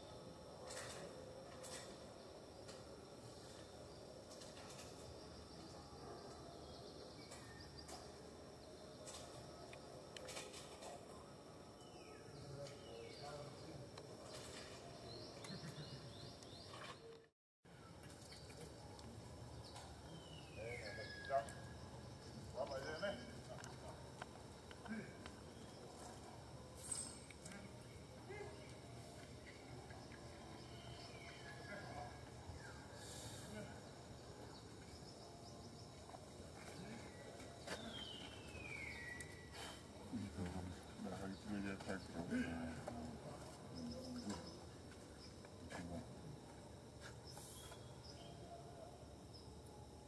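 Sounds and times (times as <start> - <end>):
faint outdoor ambience: 0.0 - 50.0.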